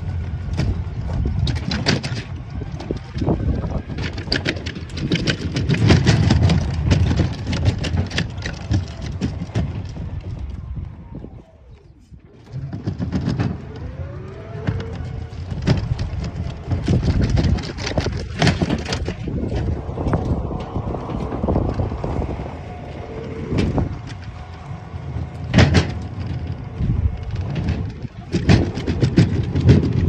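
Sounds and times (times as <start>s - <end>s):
rattles and knocks from bumps: 0.0s - 10.9s, 12.2s - 30.0s
electric vehicle rumbling: 0.0s - 30.0s
thin motor whine: 0.0s - 30.0s.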